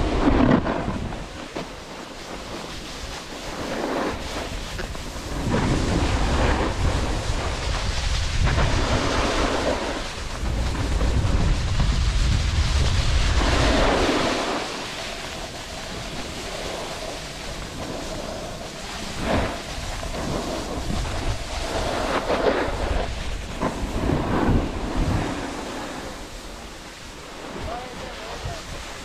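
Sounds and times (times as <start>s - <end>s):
snowboard scraping on snow: 0.0s - 29.0s
wind buffeting microphone: 0.0s - 29.0s.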